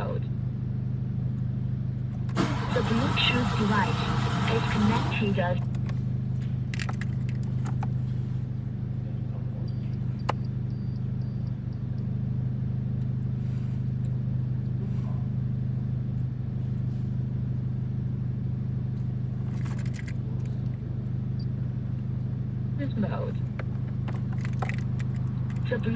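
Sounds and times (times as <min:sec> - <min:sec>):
car engine low drone: 0:00.0 - 0:25.9.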